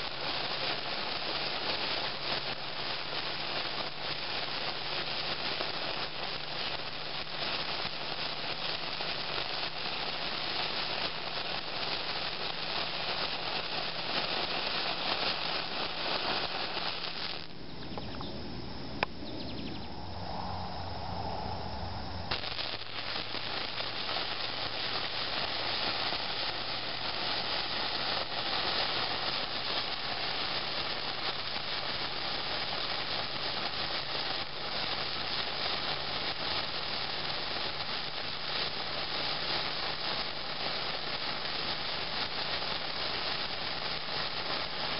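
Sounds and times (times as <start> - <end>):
sparklers hissing: 0.0 - 19.7, 21.4 - 44.9.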